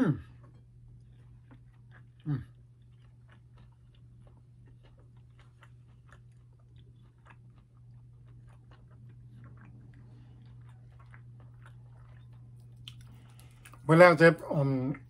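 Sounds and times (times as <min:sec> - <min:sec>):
steady low hum: 0:00.0 - 0:15.0
person chewing crunchy food: 0:00.2 - 0:13.9.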